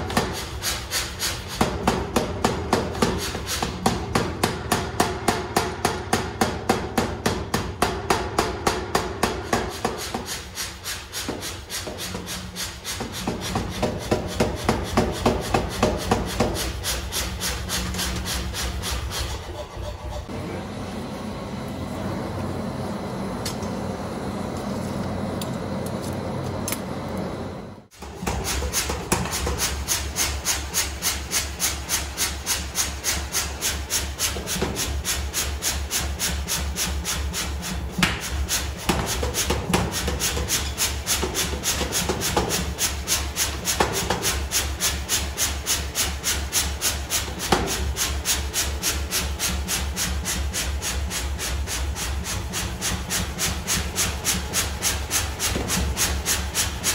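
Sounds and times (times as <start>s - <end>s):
power hammer pounding steel: 0.0s - 20.4s, 27.9s - 56.9s
forge air blower: 0.0s - 56.9s.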